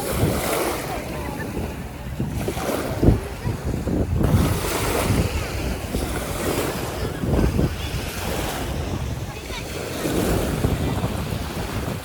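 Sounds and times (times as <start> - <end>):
surf breaking on beach: 0.0 - 12.0
wind rumbling on microphone: 0.0 - 12.0.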